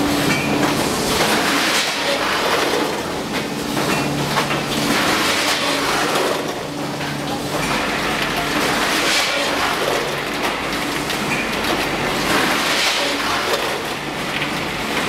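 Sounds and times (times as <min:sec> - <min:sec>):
conveyor running: 0:00.0 - 0:15.0
steady machine hum: 0:00.0 - 0:15.0.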